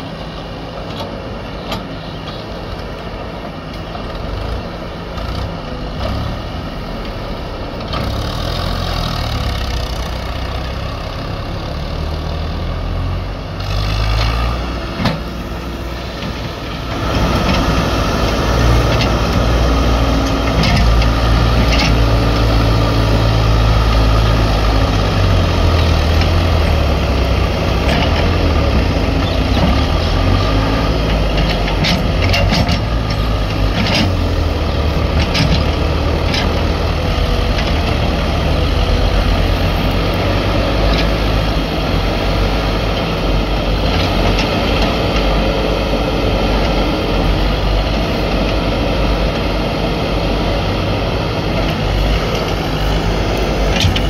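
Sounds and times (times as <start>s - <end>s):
backhoe loader engine running: 0.0s - 54.0s
tractor diesel engine under load: 0.0s - 54.0s.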